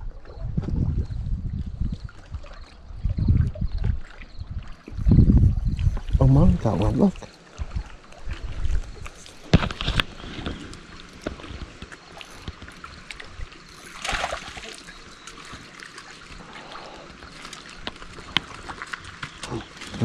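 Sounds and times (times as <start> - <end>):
water lapping at rocks: 0.0 - 20.0.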